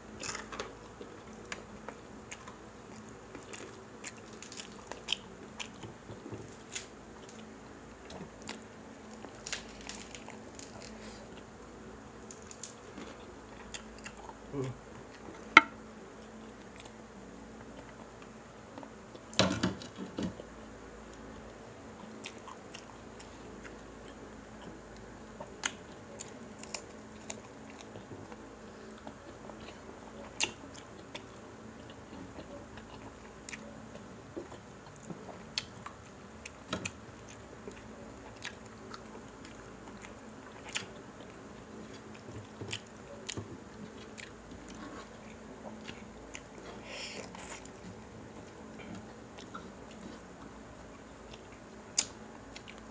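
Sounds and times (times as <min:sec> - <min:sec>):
people chewing: 0:00.0 - 0:52.9
crispy food crunching: 0:00.1 - 0:15.6, 0:21.1 - 0:52.9.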